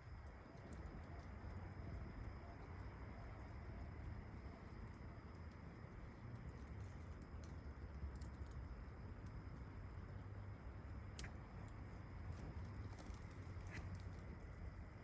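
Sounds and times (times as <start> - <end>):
faint low background noise: 0.0 - 15.0
small clicks: 0.1 - 9.7, 11.0 - 14.6.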